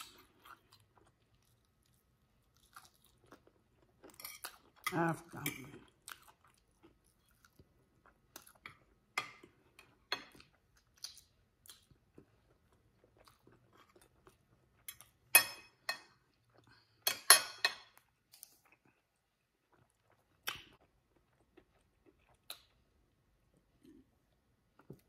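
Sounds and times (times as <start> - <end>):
chewing crunchy food: 0.0 - 15.4, 17.9 - 25.0.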